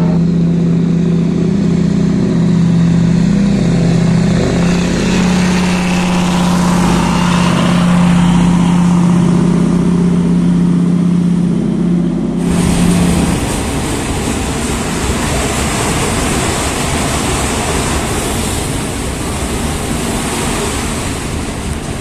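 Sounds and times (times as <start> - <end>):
train engine hum: 0.0 - 22.0
wheels rushing on rail: 0.0 - 22.0.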